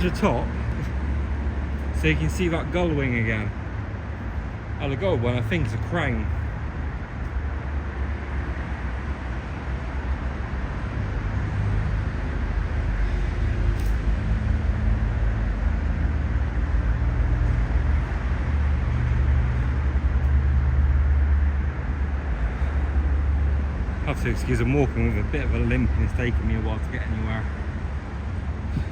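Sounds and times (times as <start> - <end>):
vehicle engine rumble: 0.0 - 28.9.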